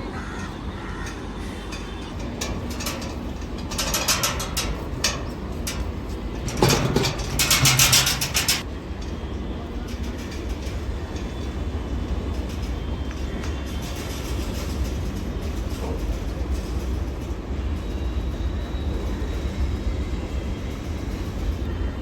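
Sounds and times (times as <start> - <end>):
train wheels clacking over rail joints: 0.0 - 21.7.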